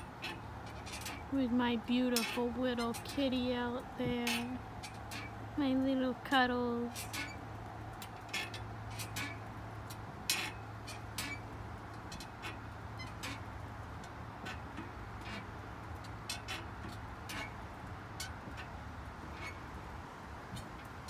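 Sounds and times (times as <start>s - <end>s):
porch swing ticking and creaking: 0.0s - 21.0s.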